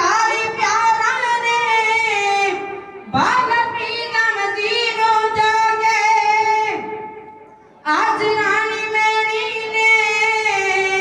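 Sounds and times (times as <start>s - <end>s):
boy singing into microphone: 0.0s - 11.0s.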